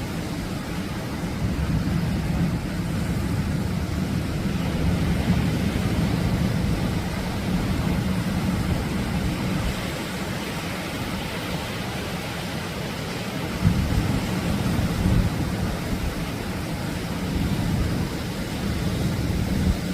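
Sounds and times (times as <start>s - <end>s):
waves breaking on shore: 0.0s - 19.9s.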